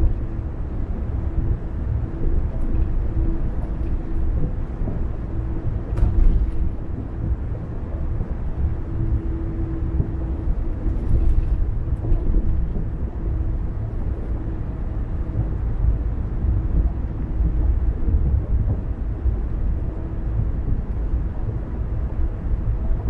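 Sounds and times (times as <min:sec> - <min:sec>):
car tyres and engine rumble: 0:00.0 - 0:23.0
faint steady hum: 0:00.0 - 0:23.0.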